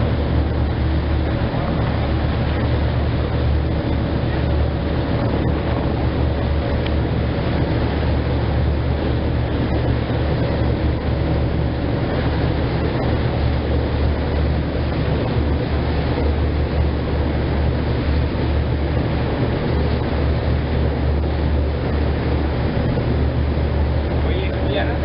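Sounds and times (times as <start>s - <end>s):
churning wake water: 0.0s - 25.0s
deep steady rumble: 0.0s - 25.0s.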